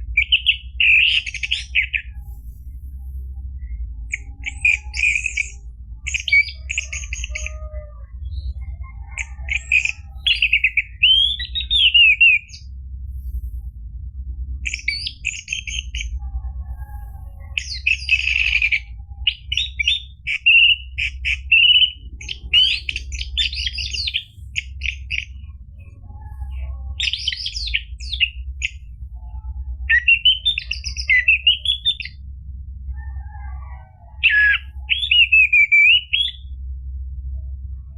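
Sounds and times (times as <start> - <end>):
thrush whistling and chirping: 0.0 - 13.5, 14.6 - 32.3, 32.9 - 36.6
steady low hum: 0.0 - 37.9.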